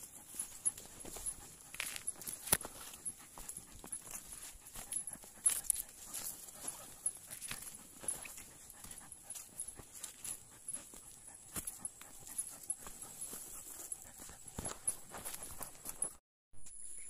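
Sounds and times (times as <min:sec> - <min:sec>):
dog panting: 0:00.0 - 0:16.2
footsteps crunching on dirt: 0:00.0 - 0:16.2.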